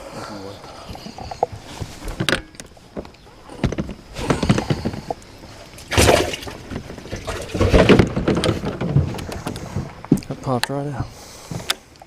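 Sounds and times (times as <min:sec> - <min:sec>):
knocks and thumps in a boat: 0:00.9 - 0:11.8.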